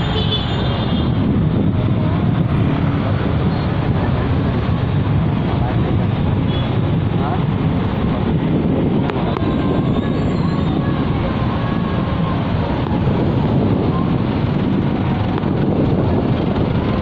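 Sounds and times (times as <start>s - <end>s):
minibus rumbling through traffic: 0.0s - 17.0s.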